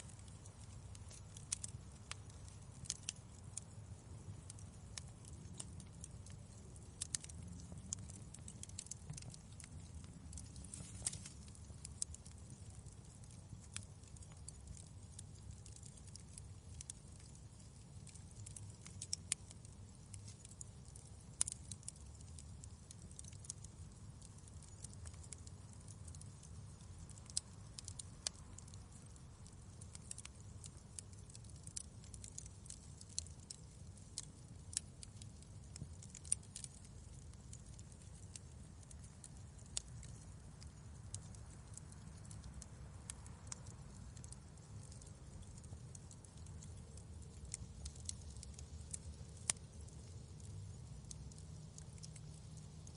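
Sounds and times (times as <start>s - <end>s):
faint low rumble: 0.0s - 52.9s
wood fire crackling: 0.0s - 52.9s.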